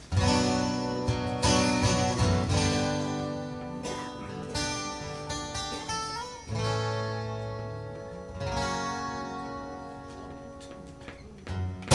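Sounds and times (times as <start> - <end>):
acoustic guitars strumming: 0.0 - 11.9.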